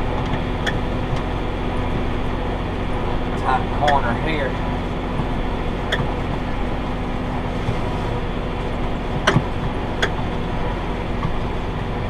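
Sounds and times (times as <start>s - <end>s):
tractor and baler running: 0.0s - 12.0s.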